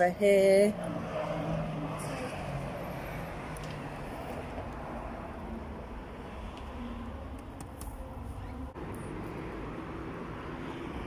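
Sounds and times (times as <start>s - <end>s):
street rumble: 0.0s - 11.0s.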